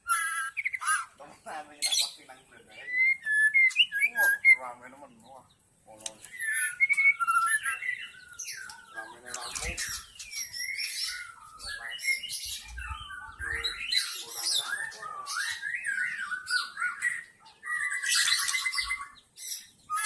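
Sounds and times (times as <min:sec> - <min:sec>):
bird singing whistled phrases: 0:00.0 - 0:01.1, 0:01.9 - 0:04.6, 0:06.2 - 0:20.0
rapid bird trill: 0:00.0 - 0:20.0.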